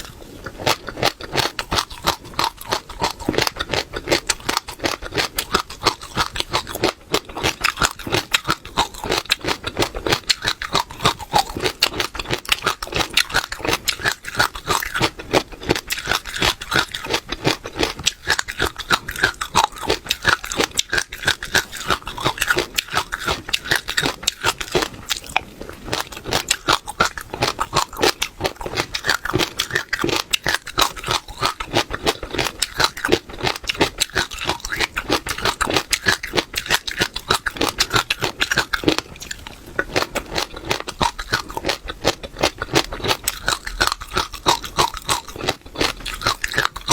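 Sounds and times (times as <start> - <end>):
chewing crunchy seeds: 0.0 - 46.9.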